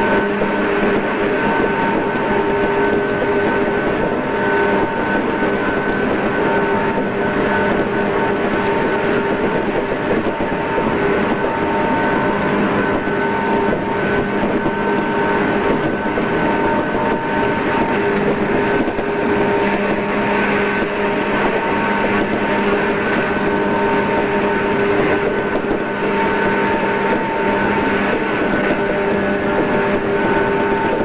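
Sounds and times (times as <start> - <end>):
train rolling noise: 0.0 - 31.0.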